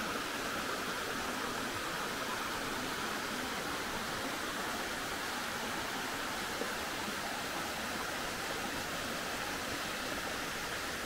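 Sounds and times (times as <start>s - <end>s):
water running over rocks: 0.0s - 11.0s.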